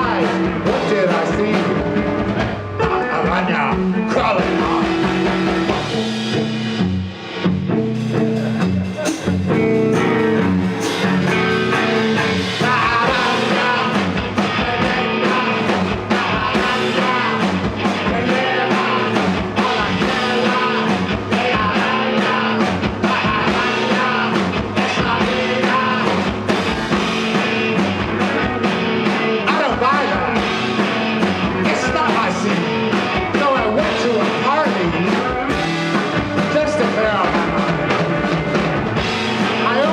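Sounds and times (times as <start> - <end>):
person singing: 0.0 - 6.7, 8.2 - 38.4, 39.0 - 39.9
live rock band playing: 0.0 - 39.9.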